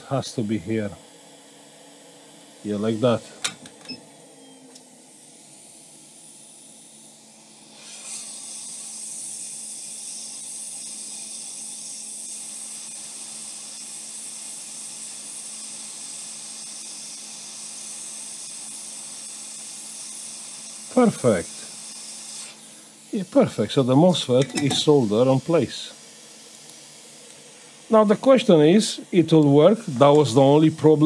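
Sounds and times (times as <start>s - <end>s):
hot air blower hissing: 0.0s - 31.0s.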